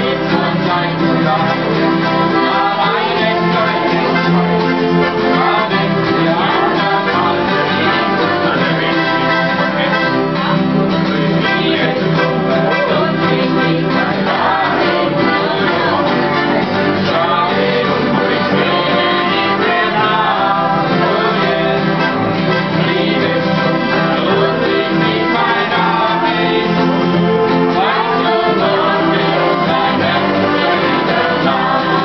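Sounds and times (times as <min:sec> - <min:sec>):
acoustic guitars strumming: 0:00.0 - 0:32.0
man and woman singing duet: 0:00.0 - 0:32.0.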